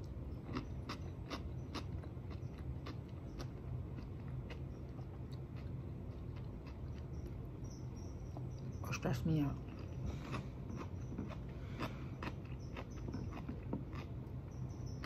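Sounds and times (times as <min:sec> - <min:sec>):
cucumber crunching while chewed: 0:00.0 - 0:07.4, 0:09.5 - 0:15.0
steady low hum: 0:00.0 - 0:15.0.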